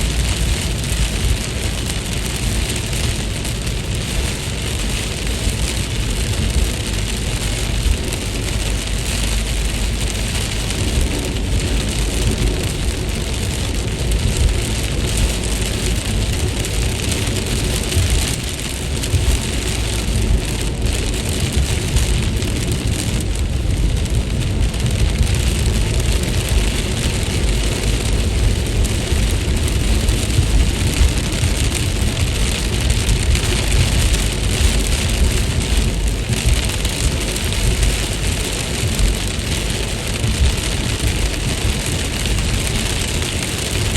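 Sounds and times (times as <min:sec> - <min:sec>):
low rumble: 0:00.0 - 0:43.9
steady rain hiss: 0:00.0 - 0:43.9.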